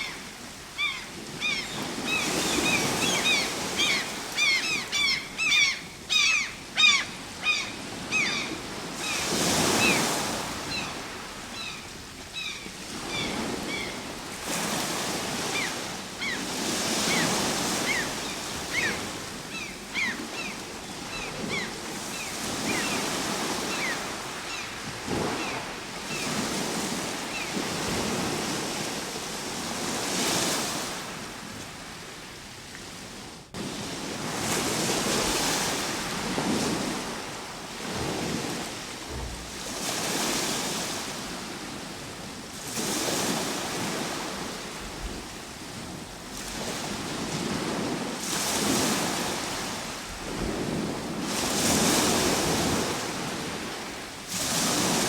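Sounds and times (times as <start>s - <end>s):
ocean waves breaking: 0.0s - 32.2s, 32.9s - 55.0s.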